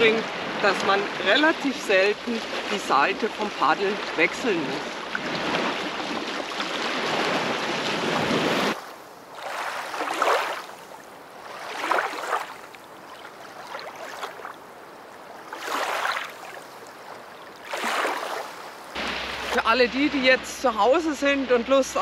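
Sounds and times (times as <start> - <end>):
water lapping around paddleboard: 0.0 - 19.8
sea water rushing: 0.0 - 22.0.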